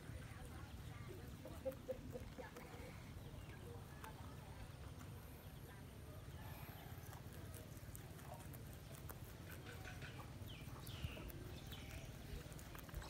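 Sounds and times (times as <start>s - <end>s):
rabbit chewing grass: 0.0s - 13.0s.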